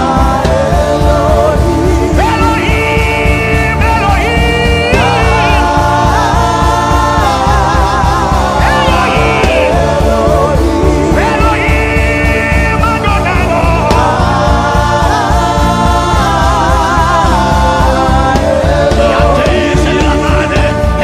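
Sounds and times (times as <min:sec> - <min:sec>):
music with bass-heavy beat: 0:00.0 - 0:21.0
person singing gospel: 0:00.0 - 0:21.0.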